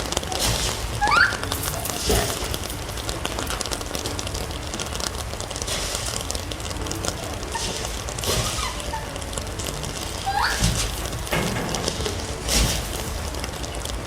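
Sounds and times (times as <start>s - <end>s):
faint rising calls: 0.0s - 13.9s
steady rain falling: 0.0s - 14.0s.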